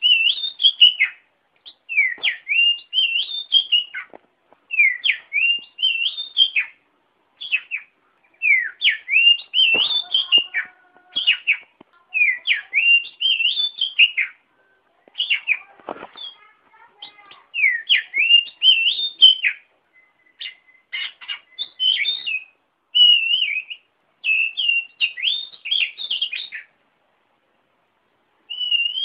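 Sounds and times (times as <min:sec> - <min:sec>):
bird singing whistled notes: 0:00.0 - 0:04.1, 0:04.7 - 0:06.8, 0:07.4 - 0:14.4, 0:15.2 - 0:16.4, 0:17.0 - 0:26.7, 0:28.5 - 0:29.0.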